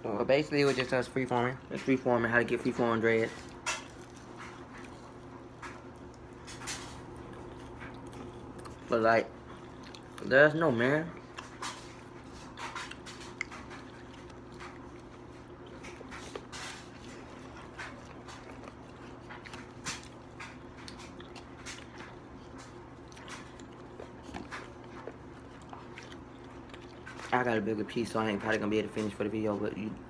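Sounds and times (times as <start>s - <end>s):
low steady hum: 0.0s - 30.0s
chewing and biting: 0.6s - 29.6s.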